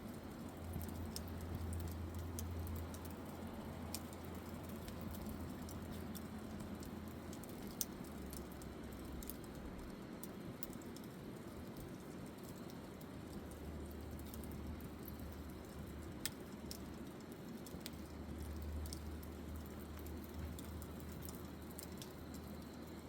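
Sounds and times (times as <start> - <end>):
campfire crackling: 0.0 - 23.0
fire popping: 0.1 - 23.0.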